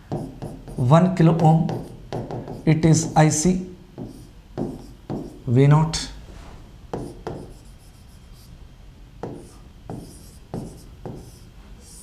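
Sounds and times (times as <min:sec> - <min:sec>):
marker pen on whiteboard: 0:00.0 - 0:05.5, 0:06.9 - 0:08.5, 0:09.2 - 0:12.0.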